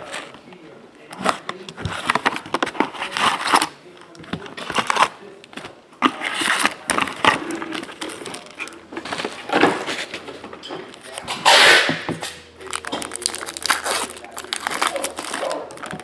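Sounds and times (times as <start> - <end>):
foil packs crinkling and clattering: 1.4 - 11.7, 12.6 - 16.0.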